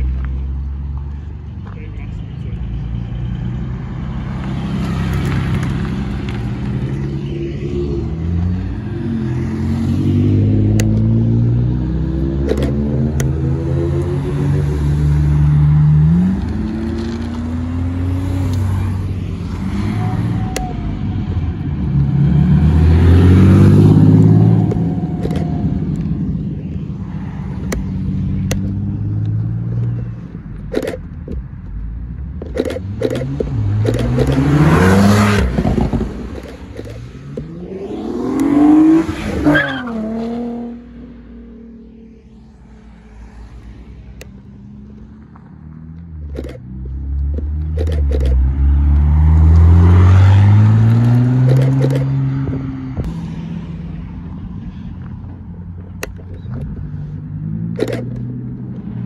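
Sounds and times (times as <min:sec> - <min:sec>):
sports car engines accelerating: 0:00.0 - 0:59.0.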